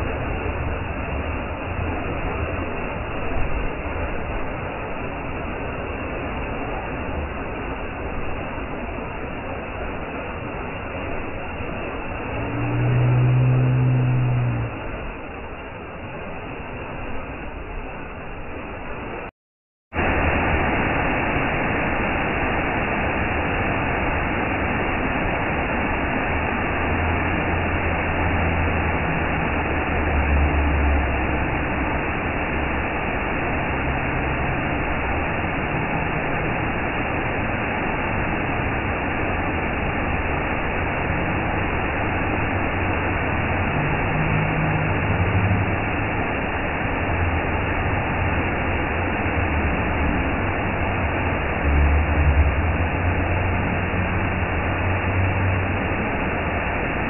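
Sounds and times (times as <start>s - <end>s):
low rumble: 0.0s - 19.3s, 19.9s - 57.0s
moving vehicle noise: 0.0s - 19.3s, 19.9s - 57.0s.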